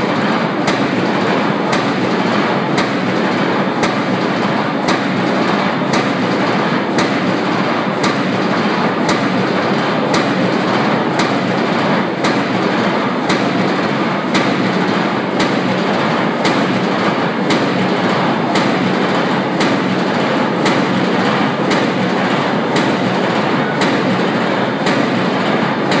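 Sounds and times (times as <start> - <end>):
loud machinery din: 0.0 - 26.0.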